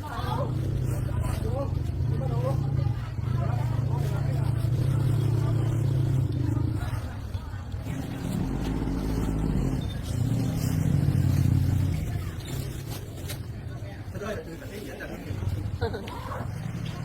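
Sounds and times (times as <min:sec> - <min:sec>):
engine humming: 0:00.0 - 0:14.2.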